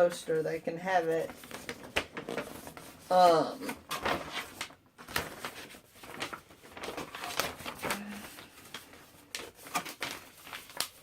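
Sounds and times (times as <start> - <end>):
paper and packaging rustling: 0.0 - 11.0.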